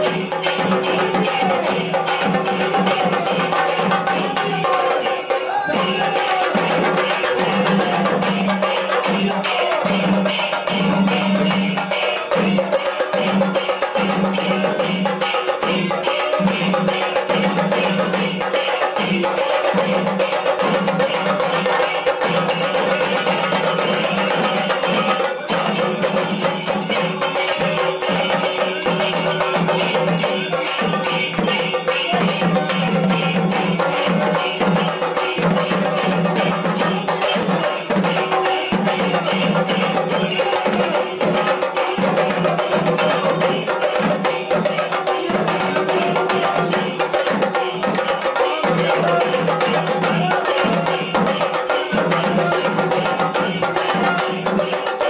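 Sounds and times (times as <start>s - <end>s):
drums beaten fast with sticks: 0.0s - 55.0s
hand cymbals clashing: 0.0s - 55.0s.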